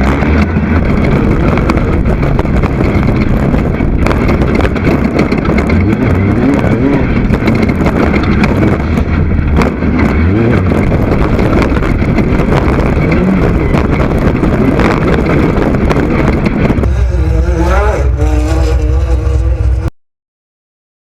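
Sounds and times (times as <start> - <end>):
buggy engine revving: 0.0 - 19.9.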